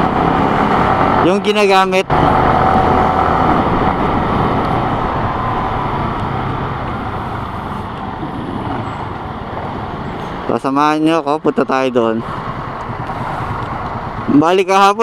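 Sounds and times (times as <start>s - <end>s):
road rushing noise: 0.0s - 15.0s
low engine hum: 2.1s - 14.4s.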